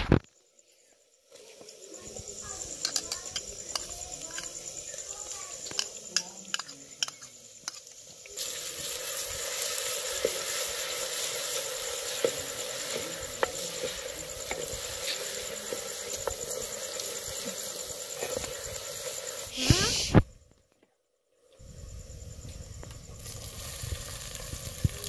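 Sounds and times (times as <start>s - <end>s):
onions sizzling in oil: 0.4s - 20.3s, 21.4s - 25.0s.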